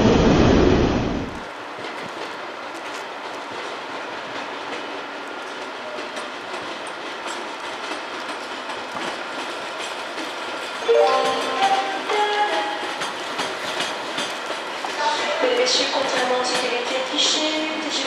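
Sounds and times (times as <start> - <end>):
train rolling on tracks: 0.0 - 18.0.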